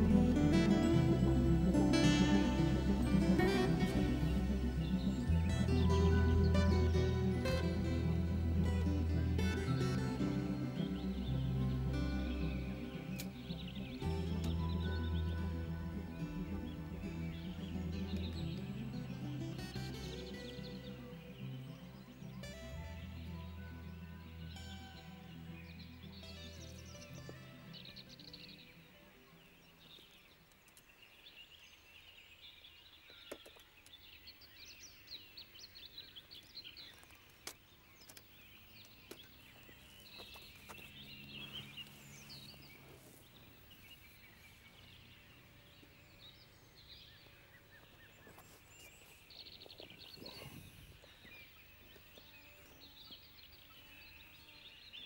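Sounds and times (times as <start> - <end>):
faint birdsong: 0.0 - 55.0.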